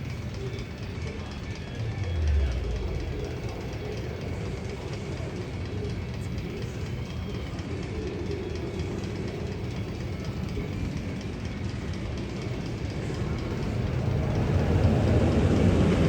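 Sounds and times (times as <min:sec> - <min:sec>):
roller coaster train rumbling: 0:00.0 - 0:16.0
track clicking: 0:00.0 - 0:16.0.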